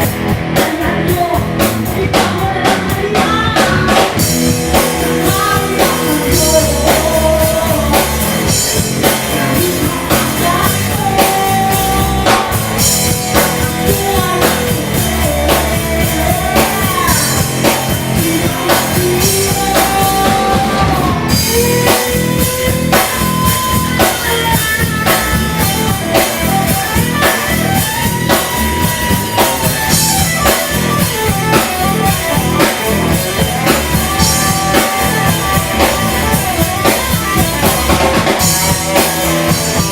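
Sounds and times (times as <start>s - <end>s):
drum kit beat: 0.0s - 39.9s
electric guitars and bass: 0.0s - 39.9s
melodic lead line: 0.0s - 39.9s
rock band playing live: 0.0s - 39.9s.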